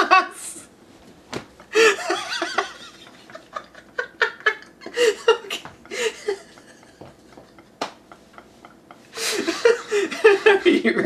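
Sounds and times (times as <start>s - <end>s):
men laughing: 1.6s - 11.0s.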